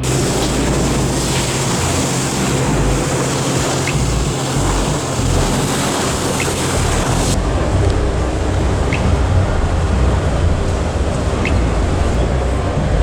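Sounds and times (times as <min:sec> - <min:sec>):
low hum: 0:00.0 - 0:13.0
ocean surf rushing: 0:00.0 - 0:13.0
wind noise: 0:00.0 - 0:13.0.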